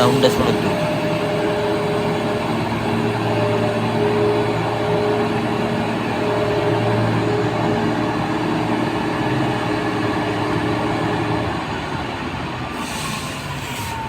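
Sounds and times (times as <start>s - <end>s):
diesel engine droning: 0.0s - 14.0s
engine whine: 0.0s - 14.0s.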